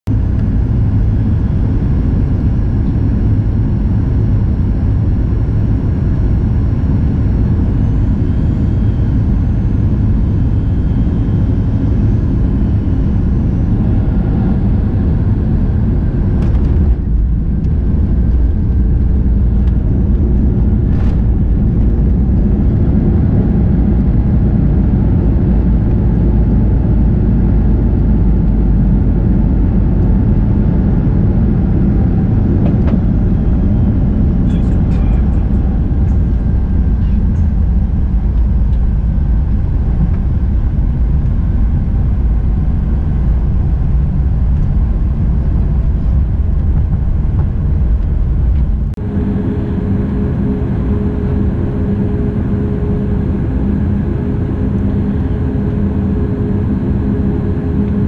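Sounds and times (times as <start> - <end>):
jet engines and rushing air: 0.1 - 58.0.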